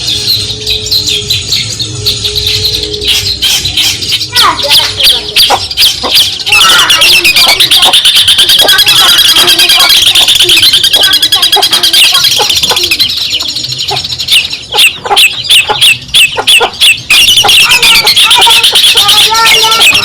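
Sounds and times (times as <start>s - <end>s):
bird chattering song: 0.0s - 20.0s.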